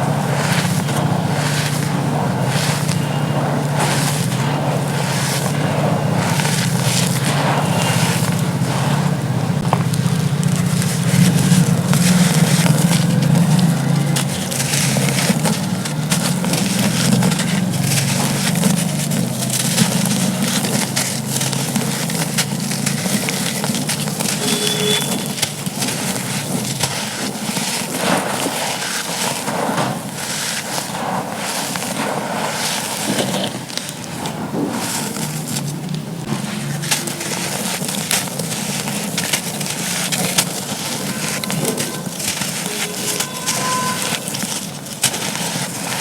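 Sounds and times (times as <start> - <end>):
charcoal being crushed: 0.0 - 46.0.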